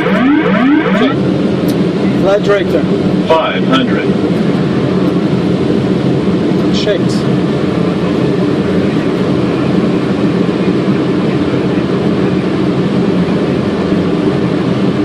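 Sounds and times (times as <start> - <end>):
airplane cockpit rumble: 0.0 - 15.0.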